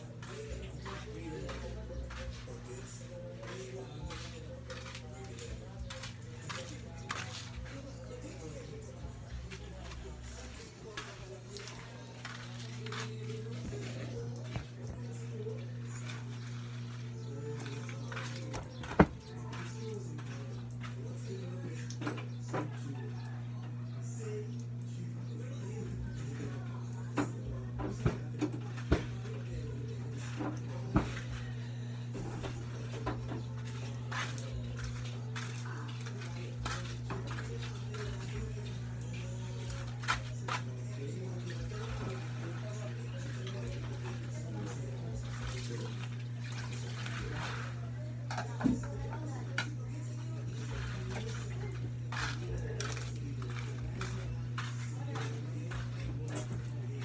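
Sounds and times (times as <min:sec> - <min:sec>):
slipper footsteps on wet concrete: 0:00.0 - 0:22.0, 0:27.8 - 0:47.9, 0:50.4 - 0:57.0.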